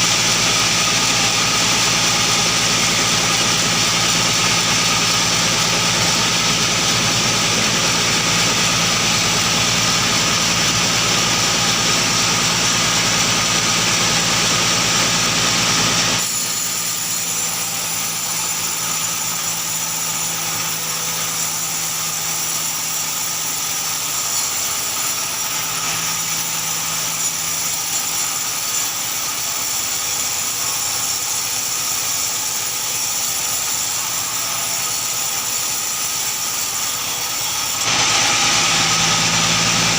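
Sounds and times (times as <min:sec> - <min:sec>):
sawmill machinery engine running: 0:00.0 - 0:39.9.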